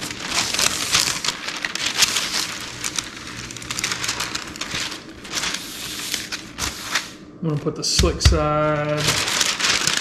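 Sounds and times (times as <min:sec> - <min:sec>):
parchment paper crackling: 0:00.0 - 0:10.0.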